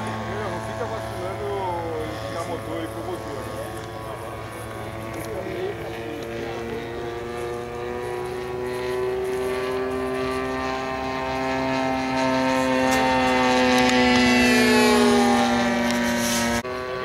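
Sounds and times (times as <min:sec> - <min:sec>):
model plane engine and propeller: 0:00.0 - 0:17.0.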